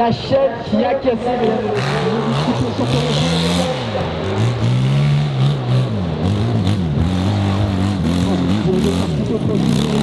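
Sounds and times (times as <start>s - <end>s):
dirt bike engine revving: 1.3s - 10.0s.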